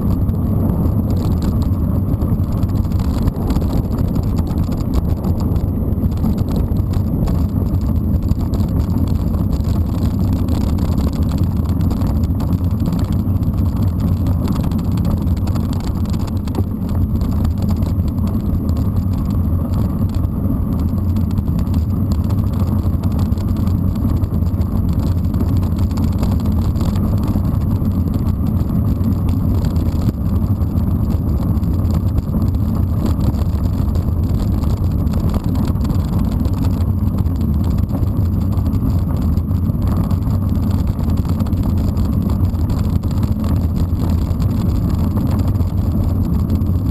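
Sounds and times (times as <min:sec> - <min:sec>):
bike tyres rolling over gravel: 0:00.0 - 0:46.9
wind buffeting microphone: 0:00.0 - 0:46.9.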